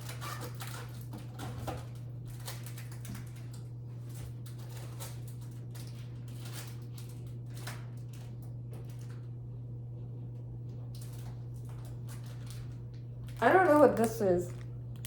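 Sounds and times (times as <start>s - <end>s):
packages and boxes rustling: 0.0s - 9.3s, 10.9s - 15.0s
steady low hum: 0.0s - 15.0s.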